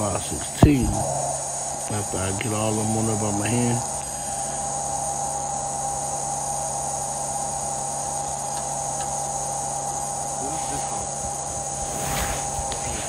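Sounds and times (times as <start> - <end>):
constant mid-pitched tone: 0.0 - 13.0
high-pitched hiss: 0.0 - 13.0
low hum: 0.0 - 13.0.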